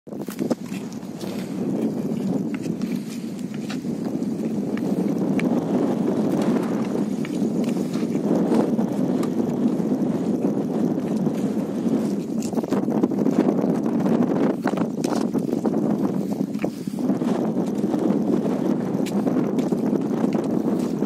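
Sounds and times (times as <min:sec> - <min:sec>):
wind buffeting microphone: 0:00.1 - 0:21.0.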